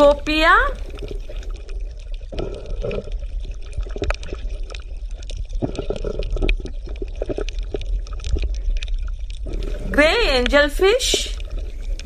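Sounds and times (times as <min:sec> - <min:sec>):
water bubbling and gurgling: 0:00.0 - 0:12.0.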